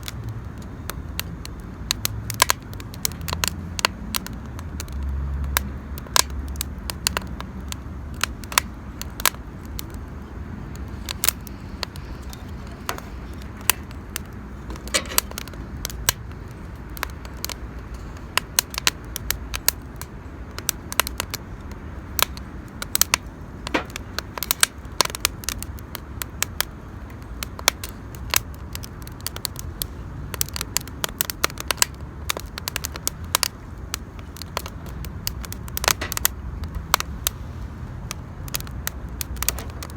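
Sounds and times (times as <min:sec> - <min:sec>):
campfire crackling and popping: 0:00.0 - 0:39.9
low steady rumble: 0:00.0 - 0:39.9.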